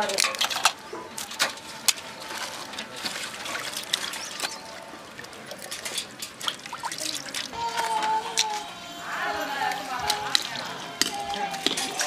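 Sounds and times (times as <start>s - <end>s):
water trickling and dripping: 0.0s - 8.9s, 9.7s - 12.0s.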